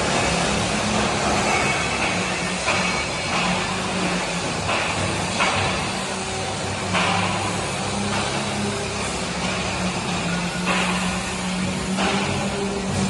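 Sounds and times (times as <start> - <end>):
pulsing hiss: 0.0 - 13.0.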